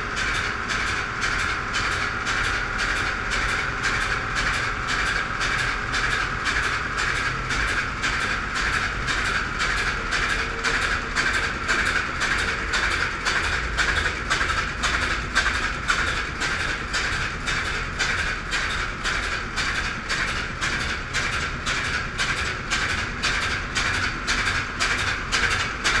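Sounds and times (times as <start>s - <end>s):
diesel engine knocking steadily: 0.0s - 26.0s.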